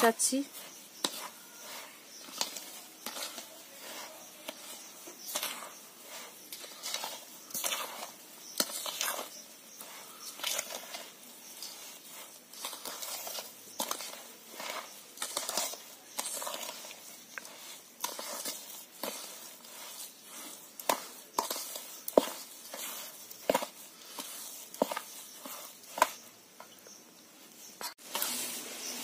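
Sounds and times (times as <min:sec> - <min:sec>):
ladle scraping batter in a bowl: 0:00.1 - 0:29.0.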